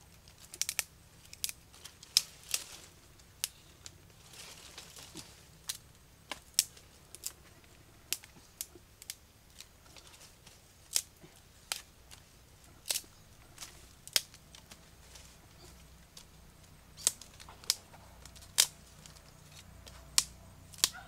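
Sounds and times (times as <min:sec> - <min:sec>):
soft rustle: 0:00.0 - 0:21.0.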